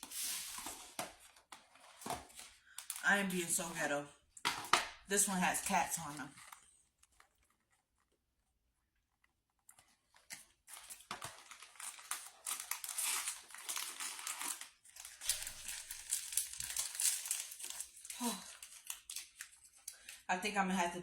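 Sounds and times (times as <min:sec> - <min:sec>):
plastic wrapper crinkling: 0:00.0 - 0:03.9, 0:05.4 - 0:08.5, 0:09.1 - 0:20.3.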